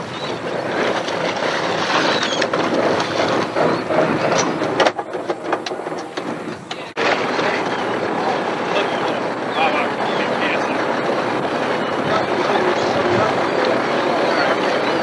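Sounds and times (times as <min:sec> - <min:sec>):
gulls calling: 0:00.0 - 0:15.0
water noise: 0:00.0 - 0:15.0
wind: 0:00.0 - 0:15.0.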